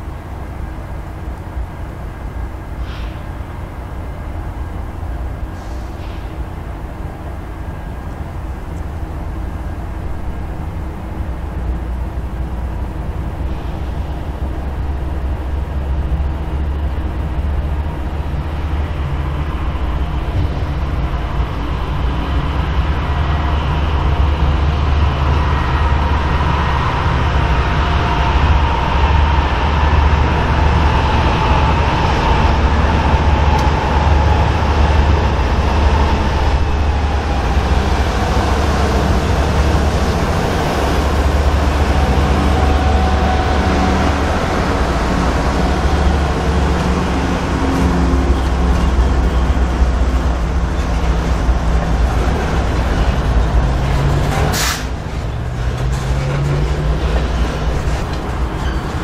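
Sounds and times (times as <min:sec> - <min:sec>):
locomotives rumbling with whine: 0:00.0 - 0:59.0
train wheels rumbling on rails: 0:00.0 - 0:59.0.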